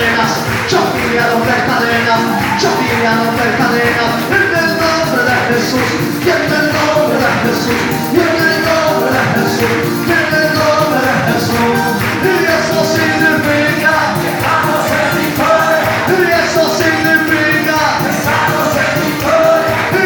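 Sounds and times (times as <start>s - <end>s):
drum beat: 0.0s - 20.0s
voices singing along: 0.0s - 20.0s
worship band playing praise music: 0.0s - 20.0s.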